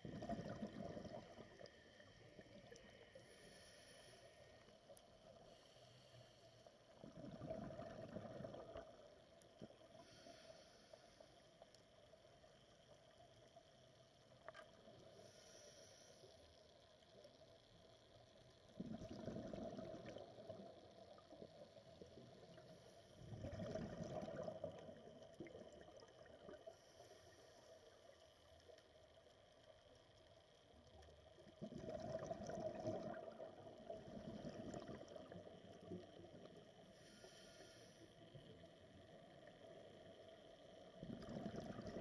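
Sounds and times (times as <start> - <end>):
underwater exhaust bubbles: 0.0 - 11.1, 11.8 - 42.0.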